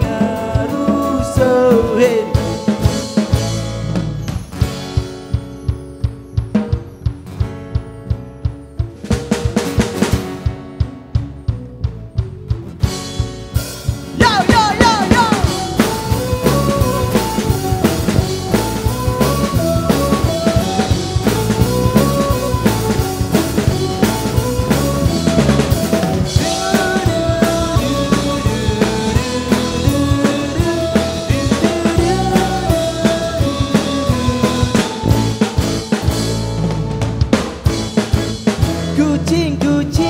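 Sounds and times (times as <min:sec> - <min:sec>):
drum kit beat: 0:00.0 - 0:40.0
melodic lead line: 0:00.0 - 0:40.0.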